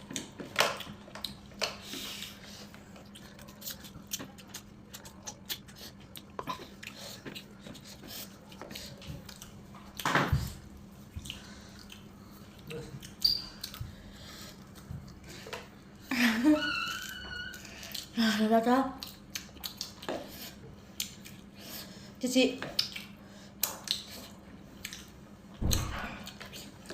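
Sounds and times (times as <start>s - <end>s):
chewing and lip smacks: 0.1s - 15.7s, 18.9s - 21.8s, 22.6s - 25.2s, 26.2s - 26.9s.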